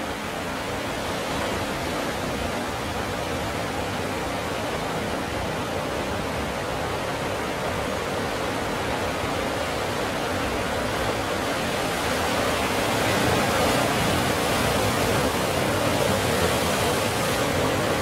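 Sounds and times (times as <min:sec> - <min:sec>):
ocean waves breaking on rocks: 0:00.0 - 0:18.0.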